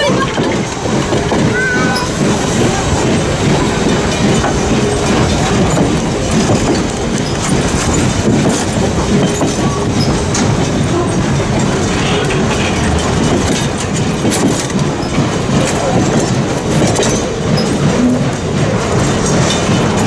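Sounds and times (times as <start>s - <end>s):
train wheels clacking over rail joints: 0.0s - 20.0s.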